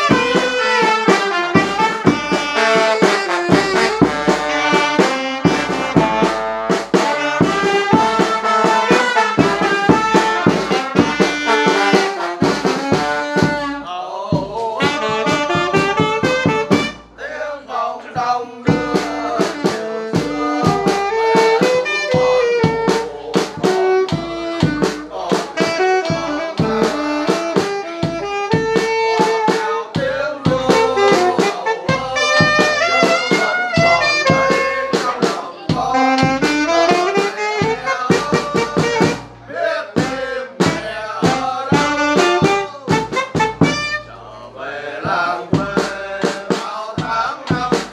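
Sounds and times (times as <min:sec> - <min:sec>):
wind instrument melody: 0:00.0 - 0:13.9, 0:14.7 - 0:17.4, 0:18.2 - 0:46.2
steady drum beat: 0:00.0 - 0:47.9.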